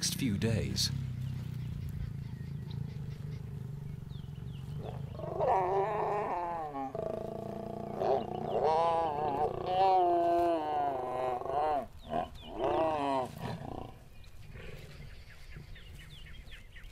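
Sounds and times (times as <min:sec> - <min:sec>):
lioness snarling and growling: 0:00.9 - 0:15.3.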